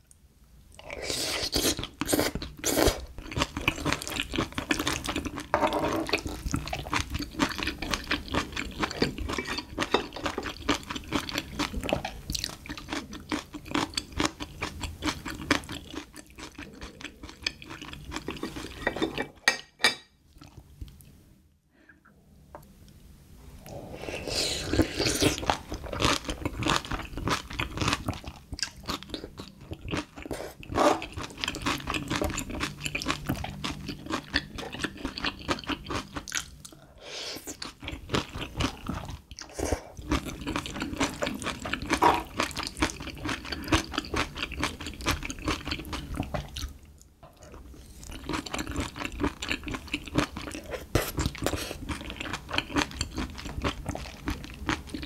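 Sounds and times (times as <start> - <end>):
wet chewing and crunching: 1.3 - 19.1, 24.6 - 55.0.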